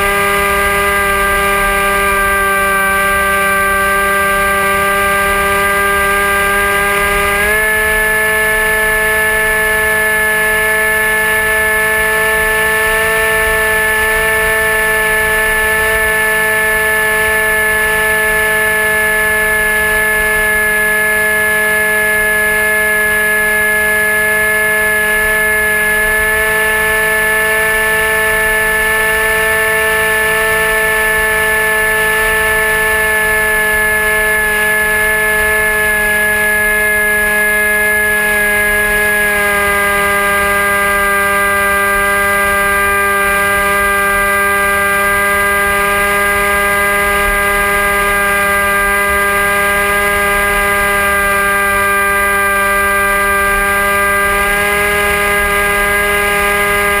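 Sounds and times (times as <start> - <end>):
electric motor and propeller whining: 0.0 - 57.0.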